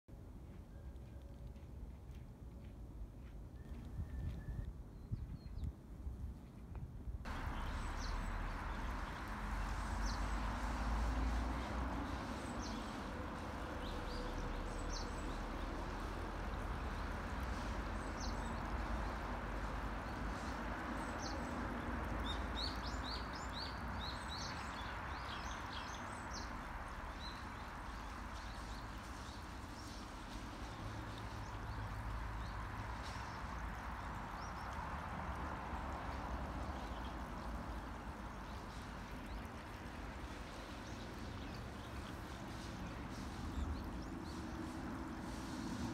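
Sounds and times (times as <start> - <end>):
stream water trickling: 7.2 - 45.9
small birds chirping: 7.3 - 11.4, 12.0 - 45.9.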